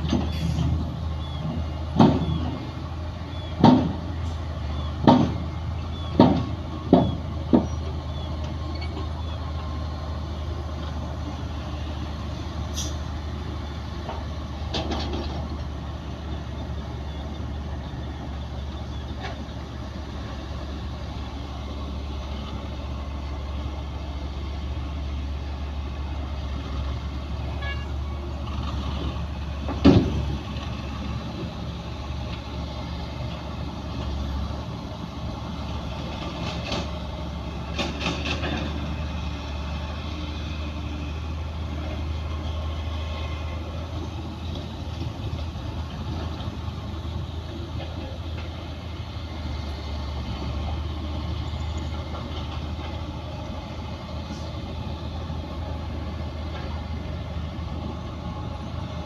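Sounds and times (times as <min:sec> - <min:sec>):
diesel machinery engine hum: 0:00.0 - 0:59.0.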